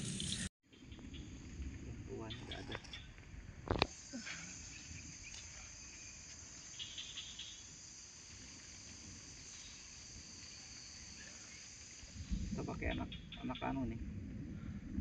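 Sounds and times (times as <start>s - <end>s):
insect chirps: 0.0s - 14.9s
insects chorus: 0.0s - 14.9s.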